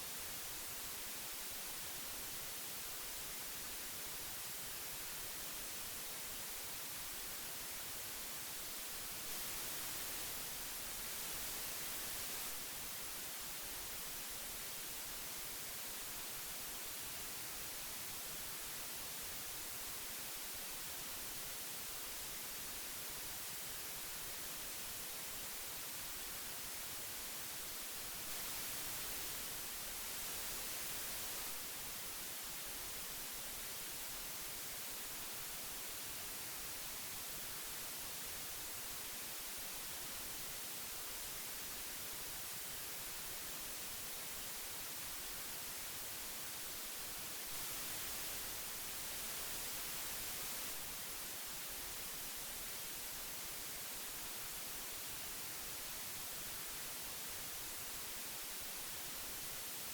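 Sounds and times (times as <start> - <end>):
magnetic tape hiss: 0.0 - 59.9.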